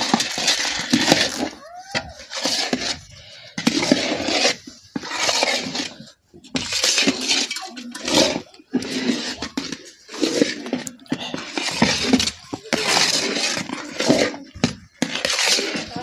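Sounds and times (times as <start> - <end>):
metal spatula scraping iron pan: 0.0 - 16.0.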